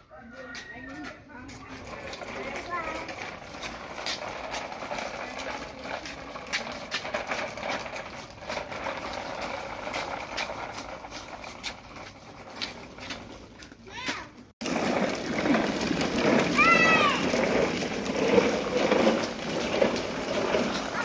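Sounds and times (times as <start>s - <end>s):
toy truck wheels rattling on concrete: 0.2s - 21.0s.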